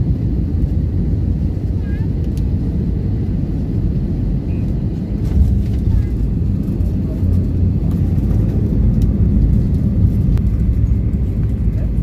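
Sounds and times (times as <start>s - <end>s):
engines and wheels rumbling: 0.0s - 12.0s.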